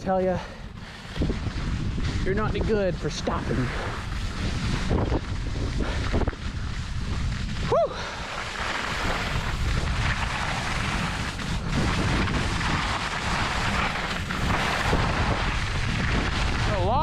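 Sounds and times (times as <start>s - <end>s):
wind buffeting microphone: 0.0s - 17.0s
skis hissing over snow: 0.1s - 17.0s.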